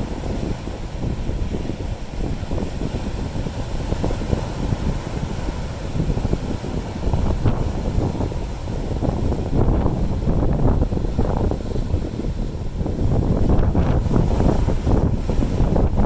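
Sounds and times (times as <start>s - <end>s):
sea waves breaking on rocks: 0.0s - 16.0s
wind on microphone: 0.0s - 16.0s.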